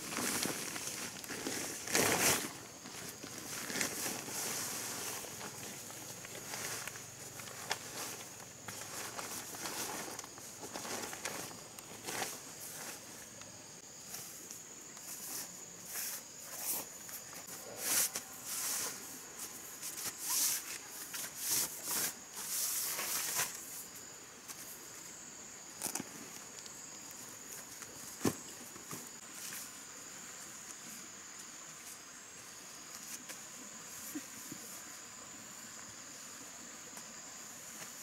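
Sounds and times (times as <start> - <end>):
ground mat rustling: 0.0 - 32.2
high insect drone: 0.0 - 38.0.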